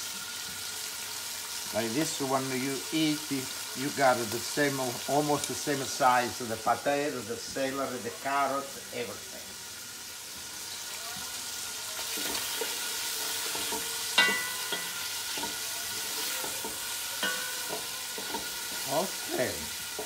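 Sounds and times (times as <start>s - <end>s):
sausage sizzling in oil: 0.0s - 20.0s.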